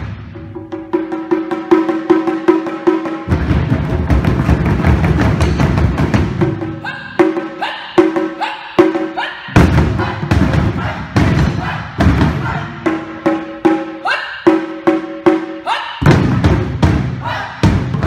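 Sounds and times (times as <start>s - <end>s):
taiko drumming: 0.0s - 18.0s.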